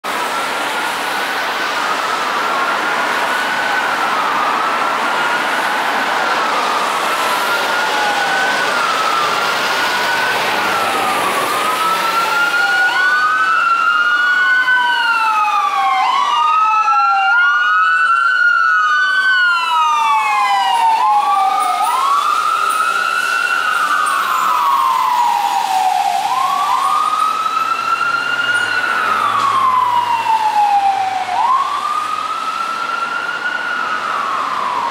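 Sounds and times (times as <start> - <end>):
fire truck wail siren: 0.0 - 34.9.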